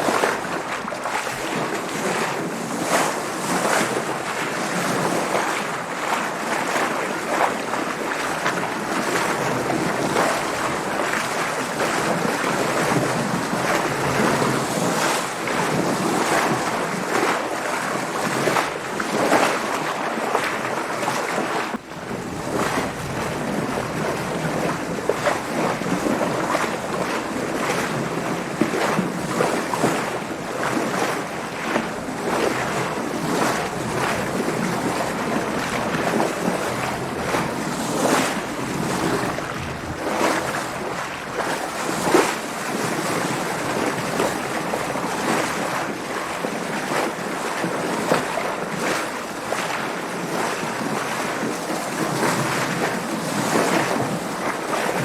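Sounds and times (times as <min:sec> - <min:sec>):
water splashing against a boat: 0:00.0 - 0:55.0
wind: 0:00.0 - 0:55.0.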